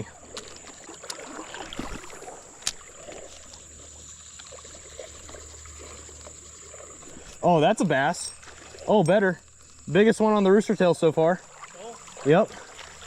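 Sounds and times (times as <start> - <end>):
creek water lapping around kayak: 0.0 - 13.0.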